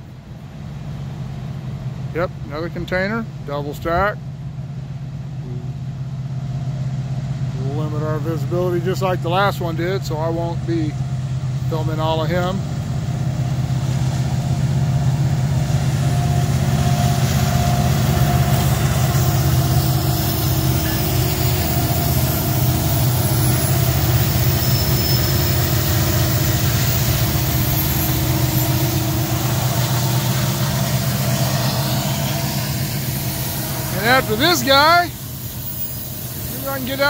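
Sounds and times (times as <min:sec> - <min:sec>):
diesel locomotive engine drone: 0:00.0 - 0:37.0
freight train rolling by: 0:00.0 - 0:37.0.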